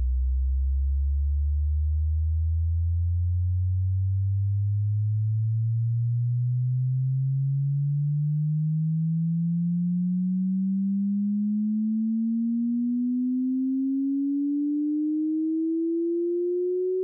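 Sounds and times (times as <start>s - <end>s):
sine wave test tone rising: 0.0s - 17.0s.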